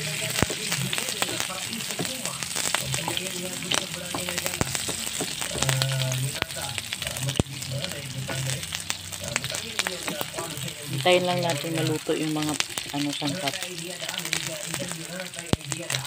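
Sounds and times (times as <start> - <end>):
food sizzling in frying pan: 0.0 - 16.0
oil crackling pops: 0.0 - 16.0
wooden spatula stirring in pan: 0.0 - 16.0.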